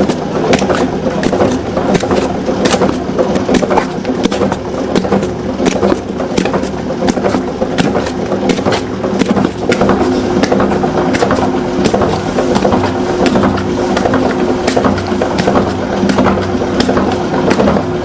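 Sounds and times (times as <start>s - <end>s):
machine motor humming: 0.0s - 18.0s
rapid clicking and knocking: 0.0s - 18.0s.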